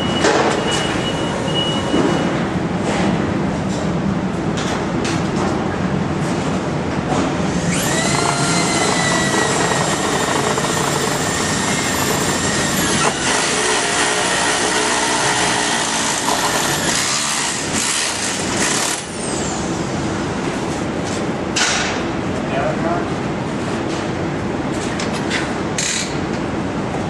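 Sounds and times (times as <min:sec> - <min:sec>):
loud mechanical noise: 0:00.0 - 0:27.0.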